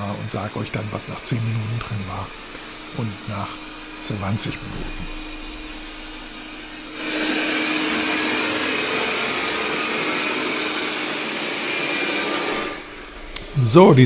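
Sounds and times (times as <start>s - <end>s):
robot vacuum suction fan whir: 0.0s - 14.0s.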